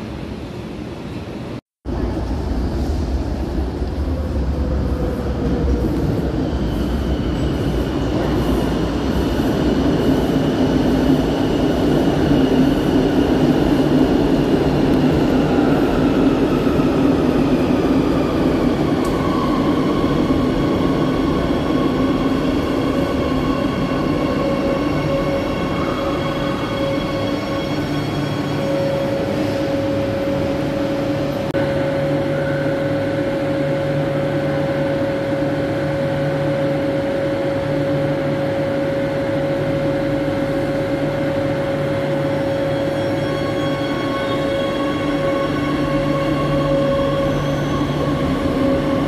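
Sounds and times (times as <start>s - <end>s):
train rumbling: 0.0s - 49.0s.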